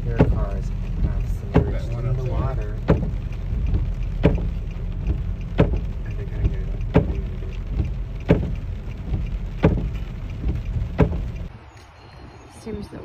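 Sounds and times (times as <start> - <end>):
car tyres rumbling in water: 0.0 - 11.5
windshield wiper knocking: 0.0 - 11.5.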